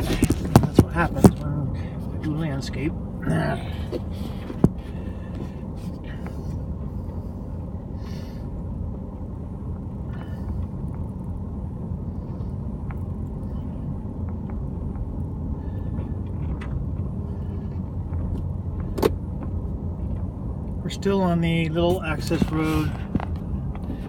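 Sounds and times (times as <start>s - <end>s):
road and tyre rumble: 0.0s - 24.0s.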